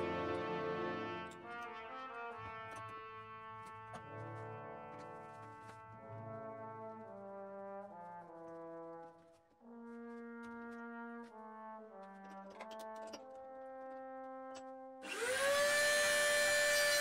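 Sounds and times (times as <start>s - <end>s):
slow brass-like melody: 0.0s - 17.0s.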